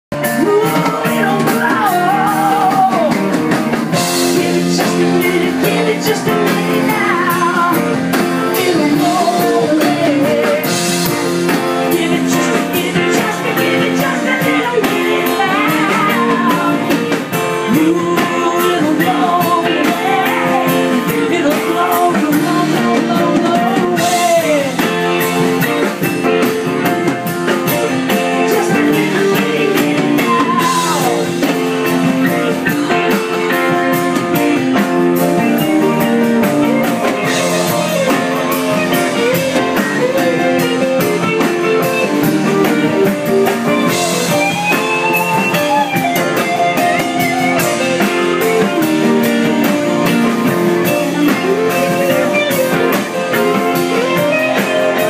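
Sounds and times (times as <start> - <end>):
drums: 0.0 - 55.0
electric guitar: 0.1 - 55.0
keyboards: 0.1 - 55.0
person singing: 0.1 - 55.0.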